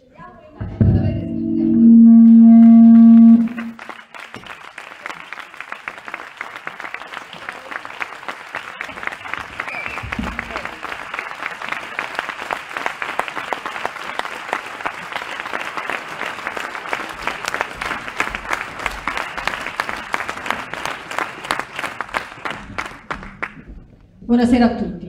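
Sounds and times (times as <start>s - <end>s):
audience applauding: 2.0s - 24.0s.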